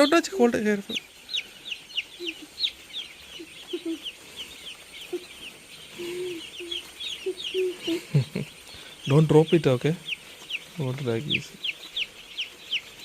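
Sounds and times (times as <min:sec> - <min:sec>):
chicks peeping: 0:00.0 - 0:13.0
hen clucking: 0:00.0 - 0:13.0.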